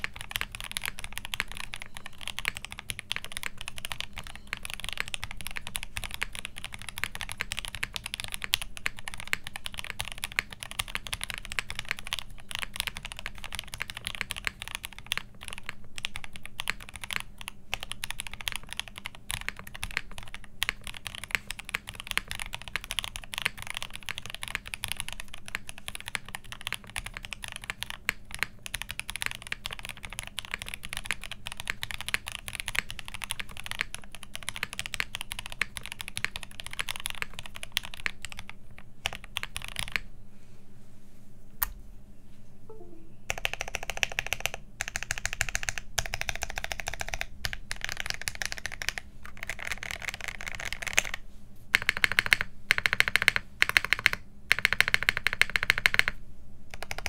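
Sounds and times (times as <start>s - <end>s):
mechanical keyboard typing: 0.0s - 40.1s, 43.3s - 57.0s.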